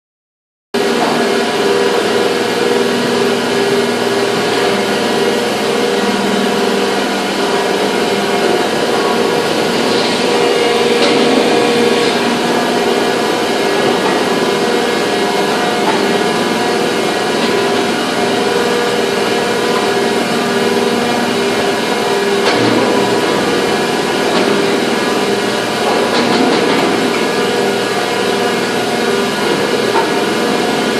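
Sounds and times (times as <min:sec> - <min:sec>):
factory machinery din: 0:00.8 - 0:30.9
humming machine tones: 0:00.8 - 0:30.9.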